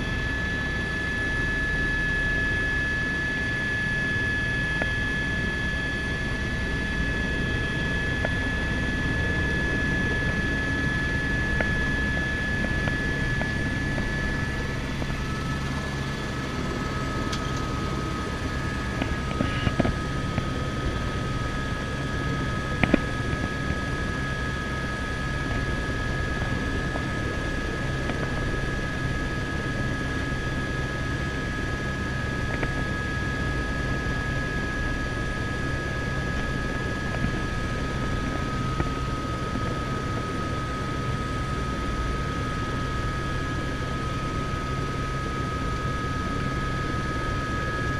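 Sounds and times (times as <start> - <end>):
helicopter engine and rotor running: 0.0 - 47.9.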